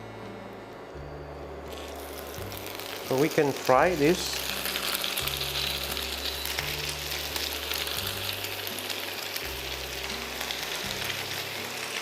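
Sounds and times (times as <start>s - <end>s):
background music bass line: 0.0s - 12.0s
bread sizzling in a frying pan: 1.6s - 12.0s.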